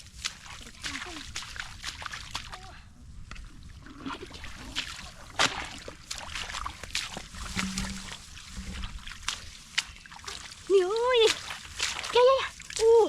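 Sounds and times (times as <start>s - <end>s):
water splashing: 0.0s - 2.8s, 3.4s - 13.0s.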